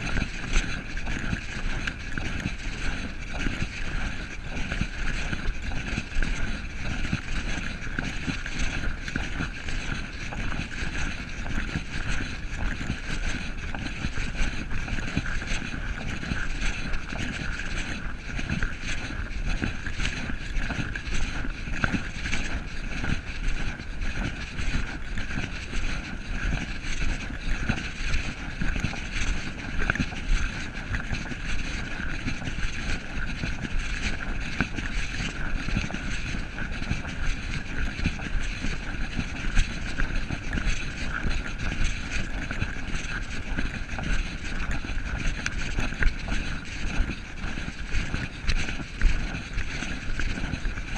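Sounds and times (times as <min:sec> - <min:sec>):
rumbling wind: 0:00.0 - 0:50.9.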